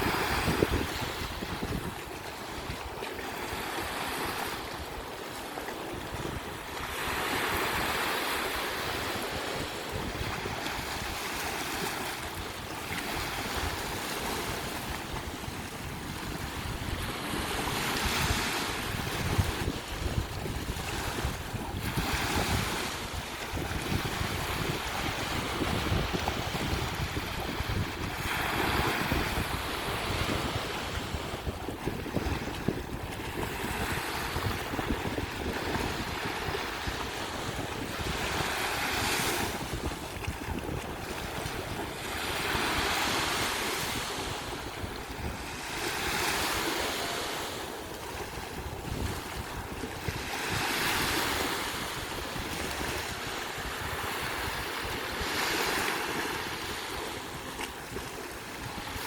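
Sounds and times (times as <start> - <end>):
sea waves breaking on beach: 0.0 - 59.0
wind rumbling on microphone: 0.0 - 59.0.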